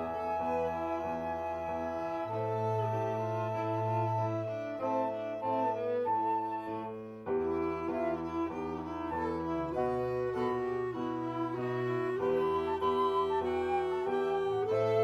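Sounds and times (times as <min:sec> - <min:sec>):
bowed strings: 0:00.0 - 0:15.0
flute melody: 0:00.0 - 0:15.0.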